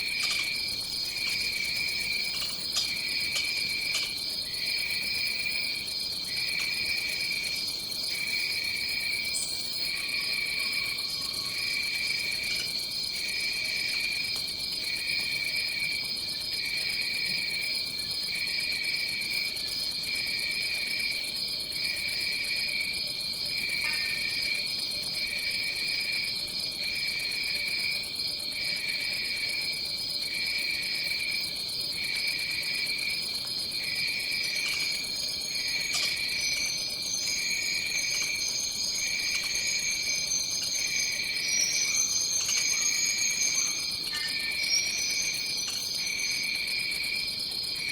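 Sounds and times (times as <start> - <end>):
insects chirping in pulses: 0.0 - 15.9, 23.3 - 47.9
insects trilling: 0.0 - 47.9.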